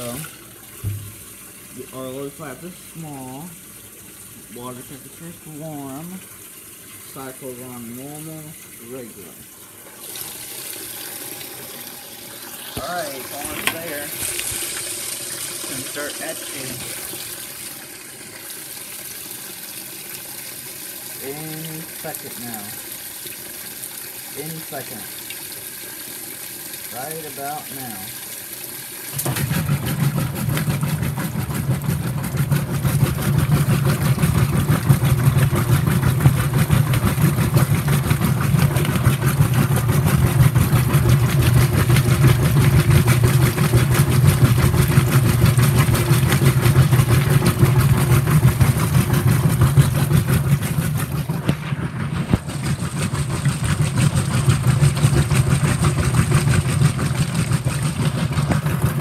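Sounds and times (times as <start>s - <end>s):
washing machine agitating: 0.0s - 59.0s.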